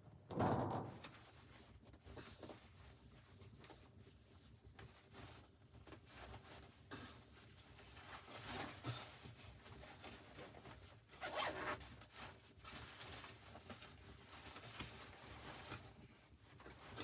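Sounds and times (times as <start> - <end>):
faint rasping and rustling: 0.3 - 17.0.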